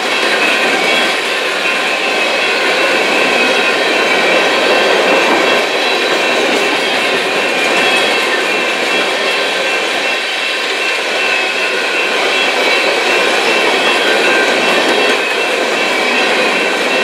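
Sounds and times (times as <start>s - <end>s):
steel wheels rolling on rail: 0.0s - 17.0s.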